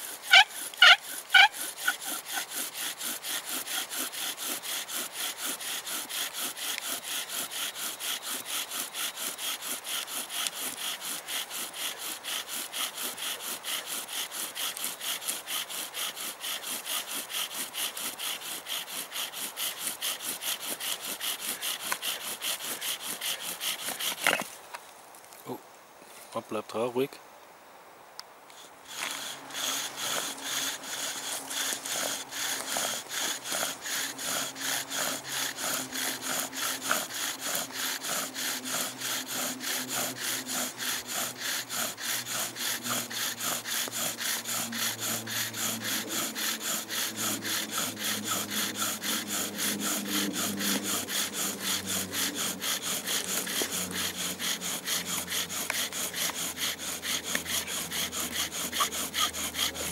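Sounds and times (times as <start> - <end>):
bow drill spindle grinding wood: 0.0 - 24.6, 28.5 - 59.9.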